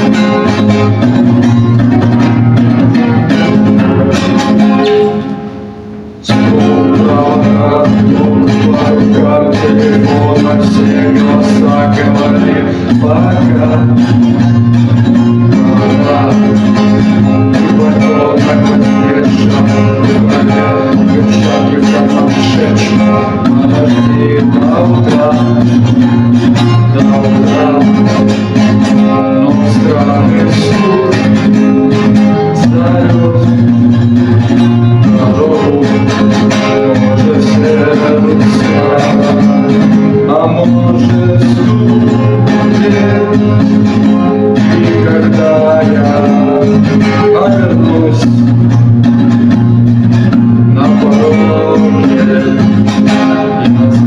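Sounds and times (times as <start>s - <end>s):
bass line: 0.0s - 54.0s
guitar: 0.0s - 54.0s.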